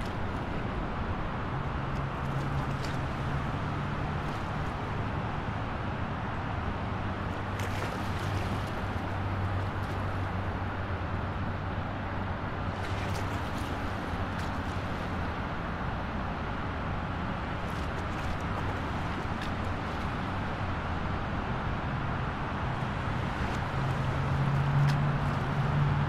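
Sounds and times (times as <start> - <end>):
low hum from ship: 0.0 - 26.0
ship wake water rushing: 0.0 - 26.0.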